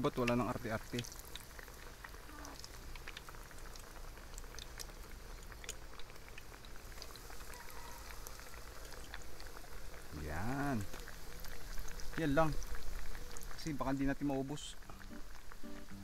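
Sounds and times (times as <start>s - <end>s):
frying in hot oil: 0.0s - 16.0s.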